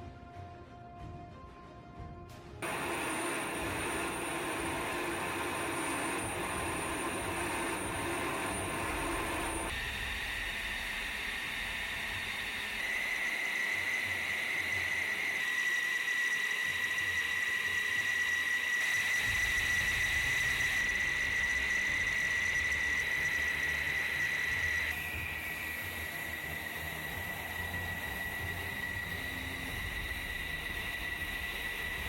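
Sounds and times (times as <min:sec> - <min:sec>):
jet engine turbine whine: 0:02.6 - 0:32.0.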